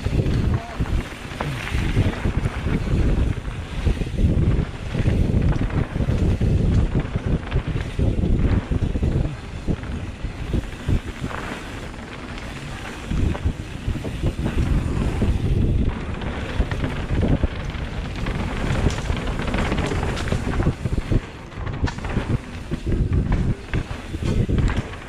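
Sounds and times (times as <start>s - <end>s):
bike knocks and rattles over bumps: 0.0s - 25.0s
rumbling tyre noise: 0.0s - 25.0s
wind buffeting microphone: 0.0s - 25.0s.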